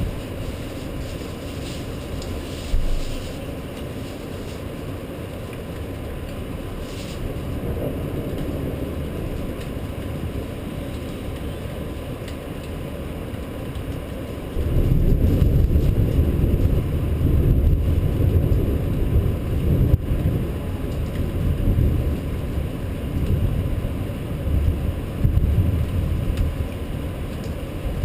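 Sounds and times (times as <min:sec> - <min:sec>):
wind buffeting the microphone: 0:00.0 - 0:28.0.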